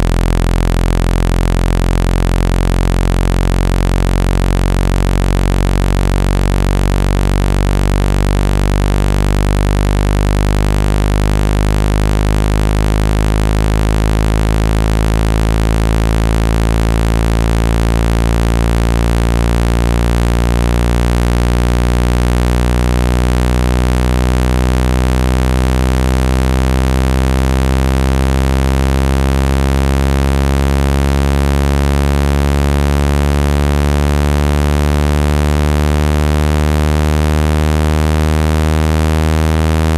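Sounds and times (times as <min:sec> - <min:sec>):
low buzzy synthesized tone: 0:00.0 - 0:39.9.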